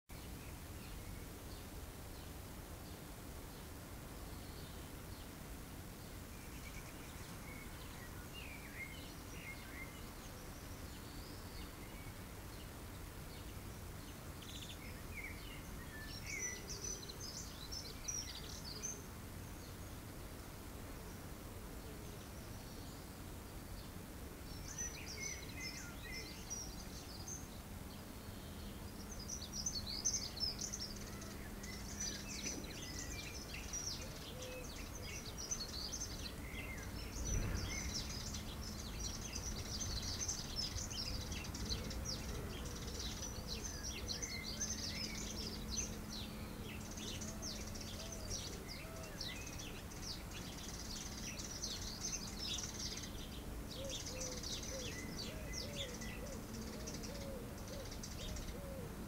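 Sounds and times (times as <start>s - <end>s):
faint low hum: 0.1s - 59.0s
songbirds chirping and trilling: 0.1s - 59.0s.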